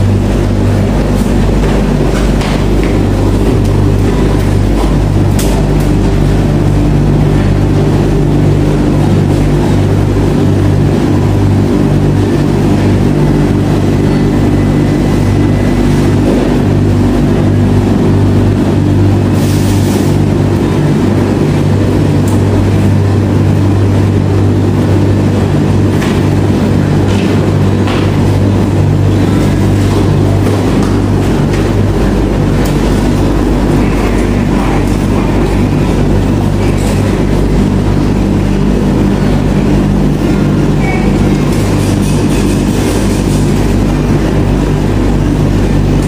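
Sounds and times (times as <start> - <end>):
dryers humming and tumbling: 0.0 - 46.0.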